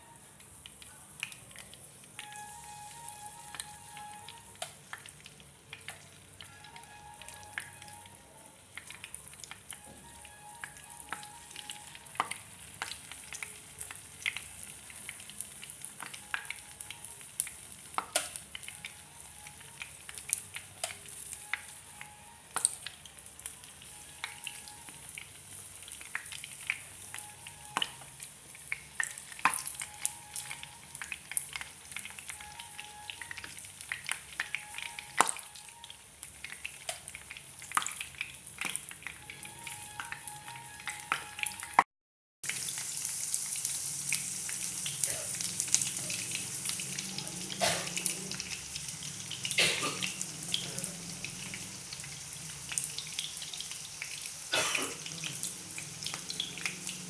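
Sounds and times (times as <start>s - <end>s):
food frying in hot oil: 0.0s - 41.8s, 42.4s - 57.0s
oil crackling and popping: 0.4s - 57.0s.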